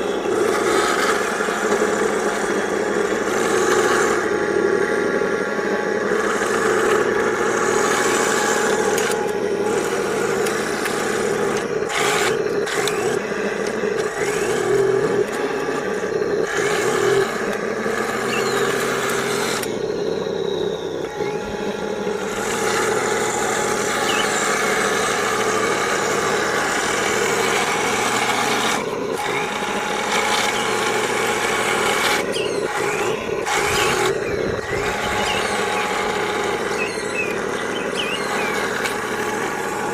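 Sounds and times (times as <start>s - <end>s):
simulated tank engine sound: 0.0s - 39.9s.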